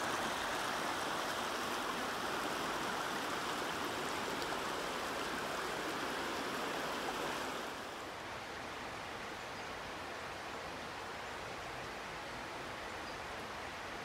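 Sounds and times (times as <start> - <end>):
river running over stones: 0.0 - 14.0.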